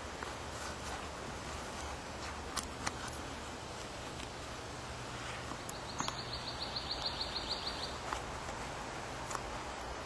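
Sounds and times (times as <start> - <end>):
outdoor hiss: 0.0 - 10.0.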